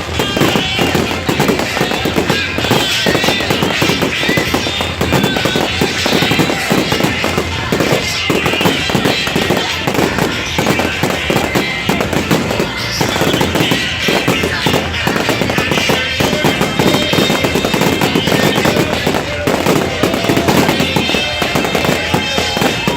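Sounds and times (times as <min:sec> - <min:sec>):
fireworks bangs and crackles: 0:00.0 - 0:22.9
loud music: 0:00.0 - 0:22.9.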